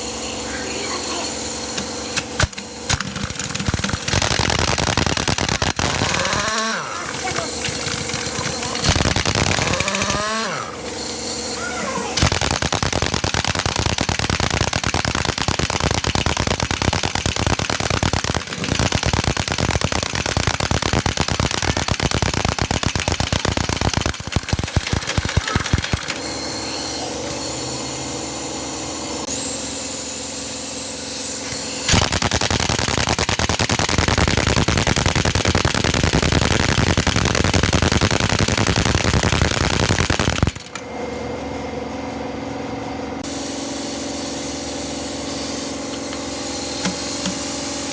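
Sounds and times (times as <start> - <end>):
pneumatic impact tool hammering: 1.3 - 27.9, 29.3 - 40.9, 43.2 - 47.9.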